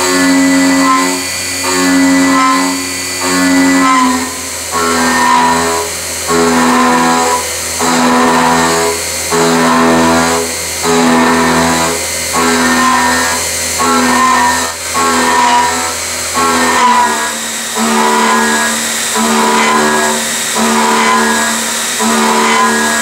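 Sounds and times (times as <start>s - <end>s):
milling machine cutting metal: 0.0s - 23.0s.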